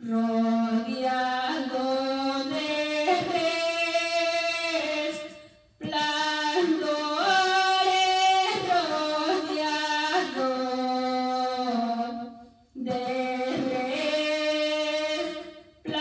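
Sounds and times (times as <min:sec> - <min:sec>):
woman singing into microphone: 0:00.0 - 0:16.0.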